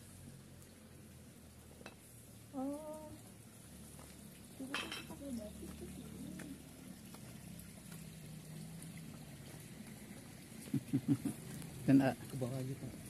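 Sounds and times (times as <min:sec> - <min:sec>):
water trickling into pond: 0:00.0 - 0:13.0.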